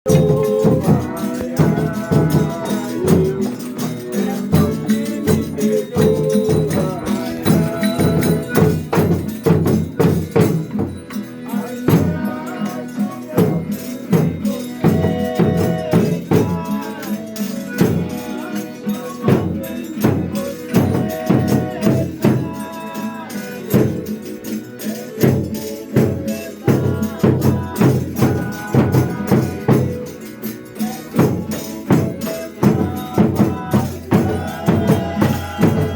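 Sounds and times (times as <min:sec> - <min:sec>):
folk music melodic instruments: 0:00.0 - 0:35.9
tambourine beat: 0:00.0 - 0:35.9.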